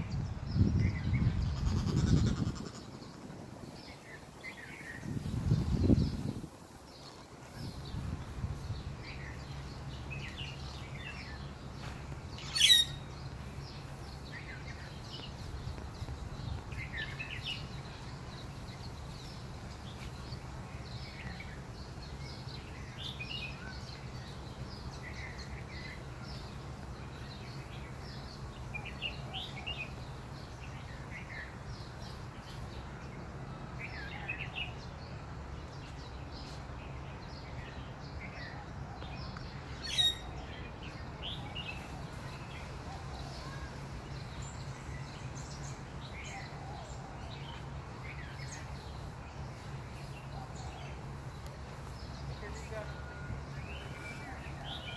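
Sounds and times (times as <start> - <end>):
birds chirping and calling: 0.0 - 33.2, 33.8 - 54.9.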